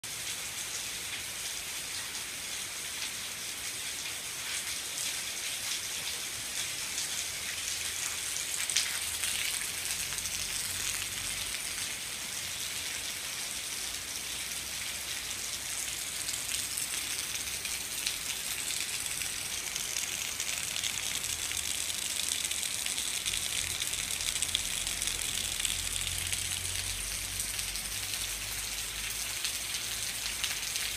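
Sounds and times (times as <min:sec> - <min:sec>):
rain on path and grass: 0:00.0 - 0:30.9.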